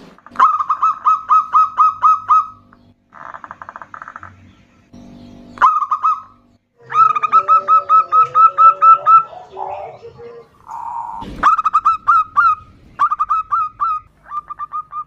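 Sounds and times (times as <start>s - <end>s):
doves calling: 0.0s - 15.0s.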